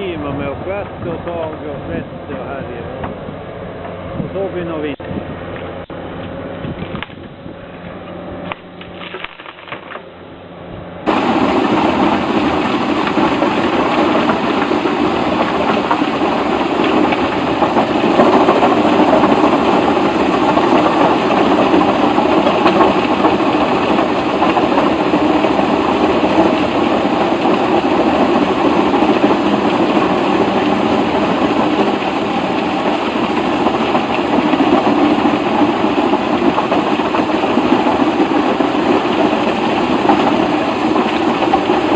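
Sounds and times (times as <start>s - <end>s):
loud steady machine noise: 0.0s - 41.9s.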